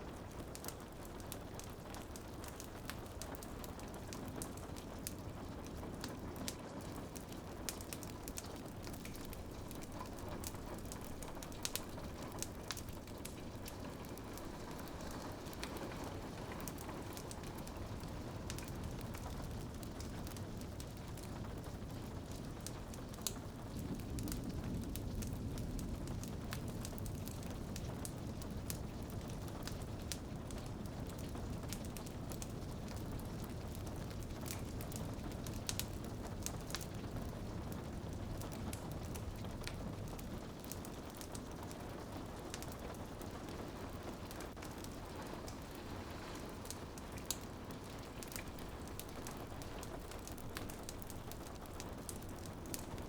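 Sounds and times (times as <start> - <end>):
rain on a window: 0.0 - 53.0
wood fire crackling: 0.0 - 53.0.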